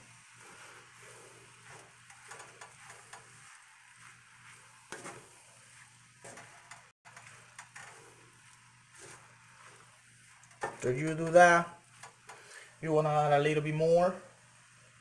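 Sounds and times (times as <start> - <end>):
spatula scraping a skillet: 0.0 - 12.8
rice sizzling: 0.0 - 15.0.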